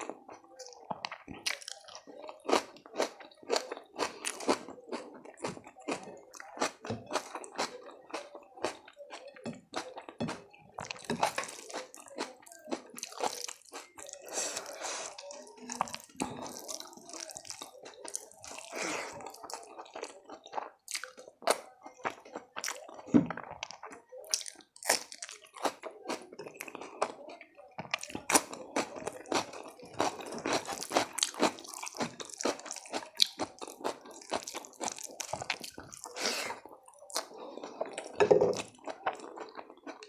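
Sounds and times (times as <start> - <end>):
person chewing and crunching food: 0.0 - 40.0.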